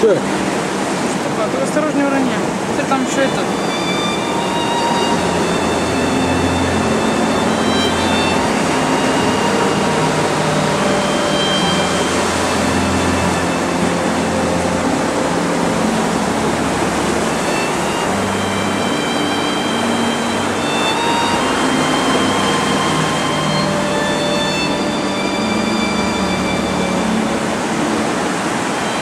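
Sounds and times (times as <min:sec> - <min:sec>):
surf washing over sand and rocks: 0:00.0 - 0:29.0.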